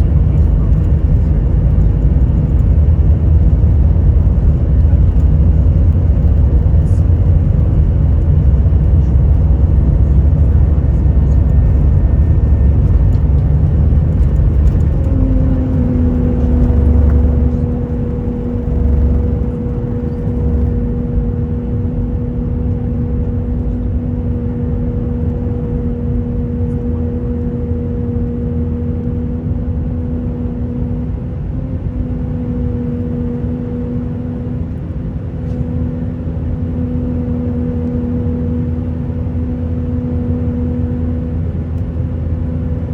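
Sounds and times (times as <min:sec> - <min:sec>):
aircraft cabin rumble: 0:00.0 - 0:42.9
steady low hum: 0:00.0 - 0:42.9.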